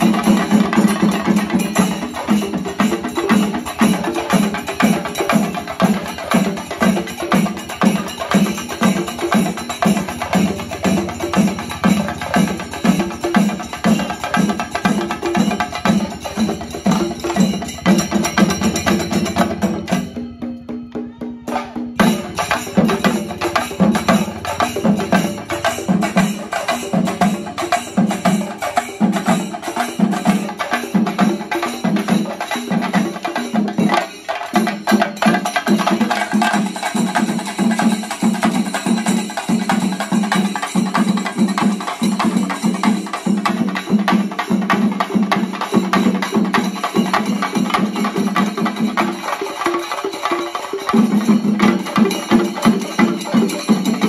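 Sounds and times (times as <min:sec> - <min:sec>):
drums beaten with sticks: 0:00.0 - 0:54.0.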